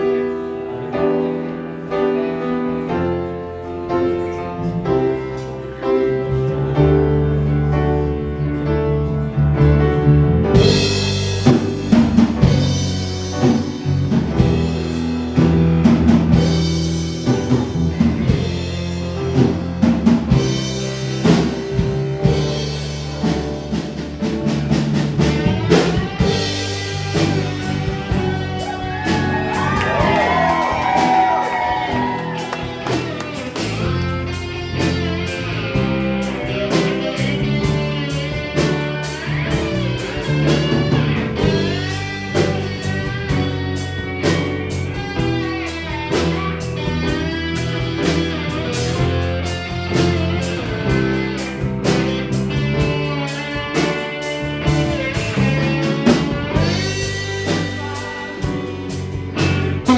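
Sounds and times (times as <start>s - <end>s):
electric guitar chords: 0.0s - 59.9s
live rock band playing: 0.0s - 59.9s
drums and cymbals: 10.5s - 59.9s.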